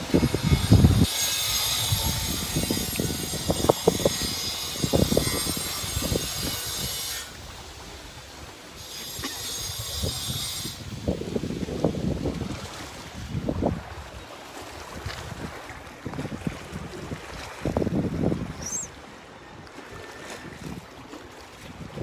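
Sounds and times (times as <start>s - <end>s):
wind buffeting microphone: 0.0s - 7.9s, 9.5s - 22.0s
sea and wind hiss: 0.0s - 22.0s.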